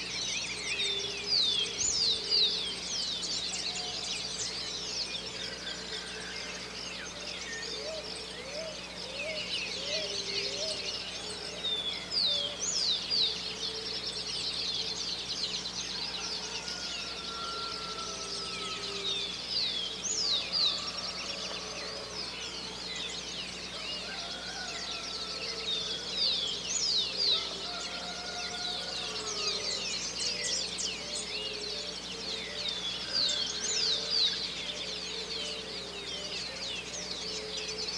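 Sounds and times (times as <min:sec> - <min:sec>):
birds singing and chirping: 0:00.0 - 0:37.9
low rising bird call: 0:05.3 - 0:37.9.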